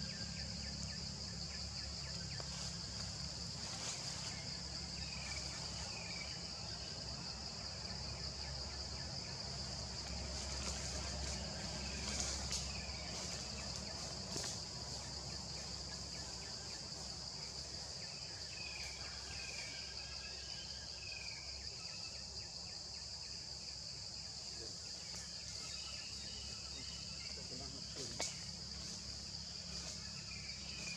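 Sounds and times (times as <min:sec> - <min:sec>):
insect chorus buzzing: 0:00.0 - 0:30.9.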